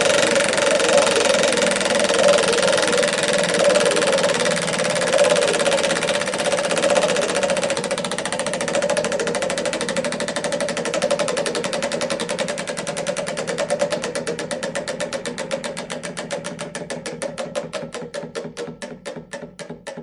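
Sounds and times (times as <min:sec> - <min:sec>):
roulette wheel clicking: 0:00.0 - 0:20.0.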